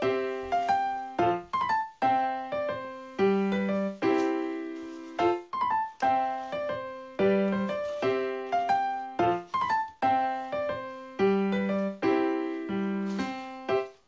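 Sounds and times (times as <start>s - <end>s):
light keyboard tune: 0.0s - 14.0s.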